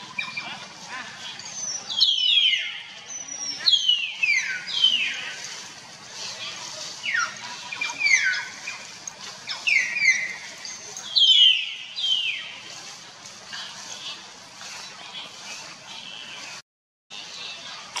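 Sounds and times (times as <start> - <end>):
forest background hiss: 0.0 - 18.0.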